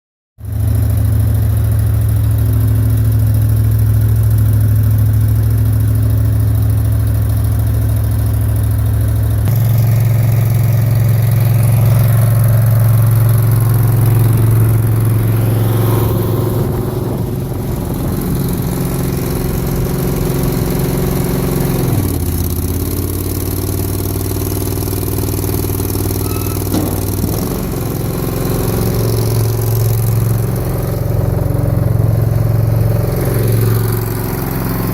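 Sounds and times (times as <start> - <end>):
skid steer engine running: 0.4 - 34.9.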